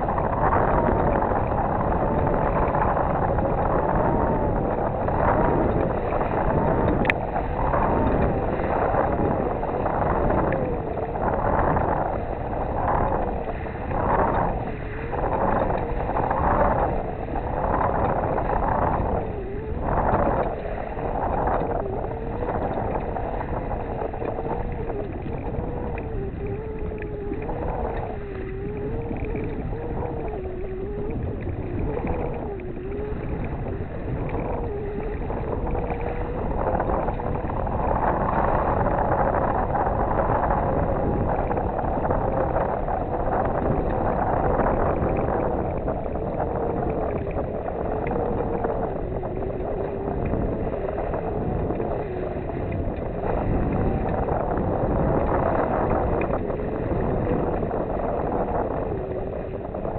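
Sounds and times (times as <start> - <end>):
rush of wind and water: 0.0 - 59.9.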